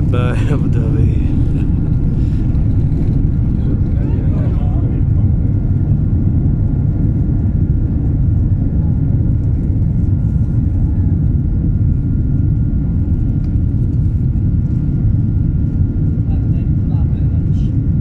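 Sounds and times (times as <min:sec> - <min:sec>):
thin steady whine: 0:00.0 - 0:17.4
jet engine cabin rumble: 0:00.0 - 0:18.0.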